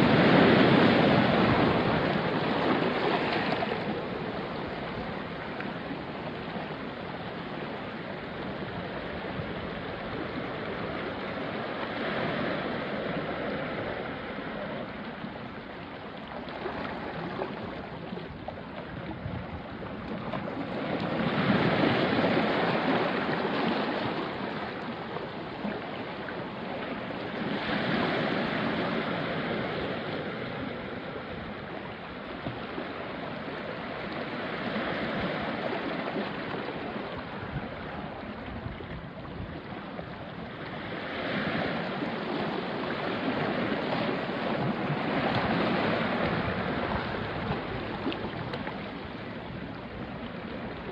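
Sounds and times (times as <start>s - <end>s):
waves washing on rocky shore: 0.0s - 50.9s.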